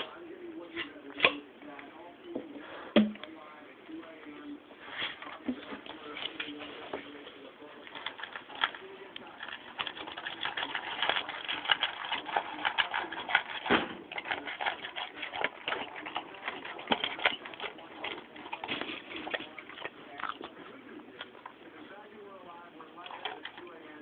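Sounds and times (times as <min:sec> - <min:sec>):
pet crunching dry kibble: 0:04.2 - 0:24.0.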